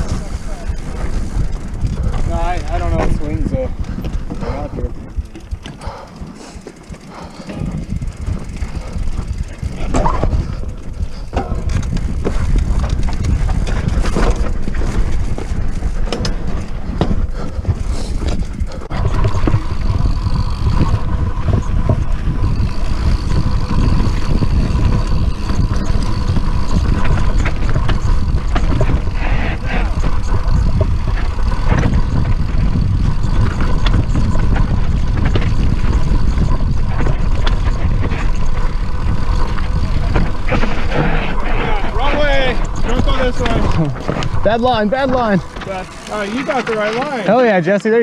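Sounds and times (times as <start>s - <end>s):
wind on microphone: 0.0s - 46.6s
bike rattling over rocks: 0.0s - 48.0s
bike tyres on dirt: 0.0s - 48.0s.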